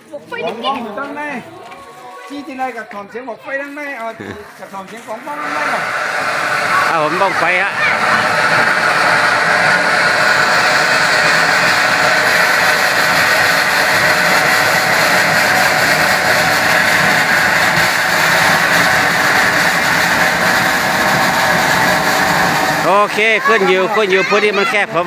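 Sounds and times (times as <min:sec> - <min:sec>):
firework rushing hiss: 0:04.4 - 0:24.9.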